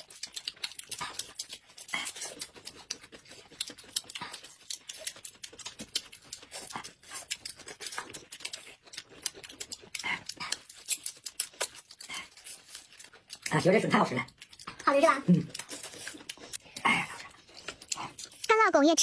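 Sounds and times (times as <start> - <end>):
wet mouth smacks and chewing: 0.0 - 18.5.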